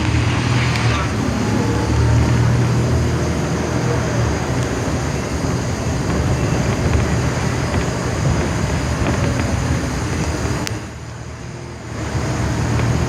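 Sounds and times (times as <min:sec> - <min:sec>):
engine running low: 0:00.0 - 0:13.0
road and traffic noise: 0:00.0 - 0:13.0.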